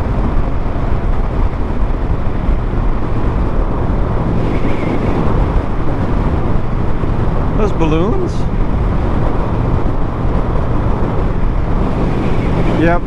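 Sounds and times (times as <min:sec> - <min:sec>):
wind over microphone: 0:00.0 - 0:13.0.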